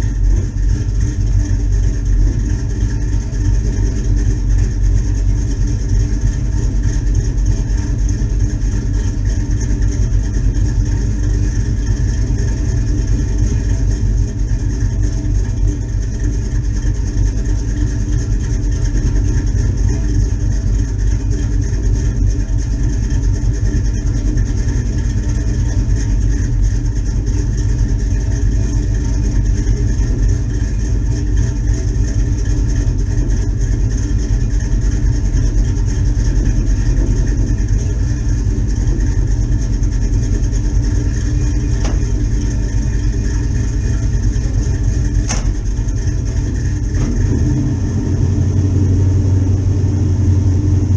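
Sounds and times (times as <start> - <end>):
pickup truck engine idling: 0.0 - 50.9.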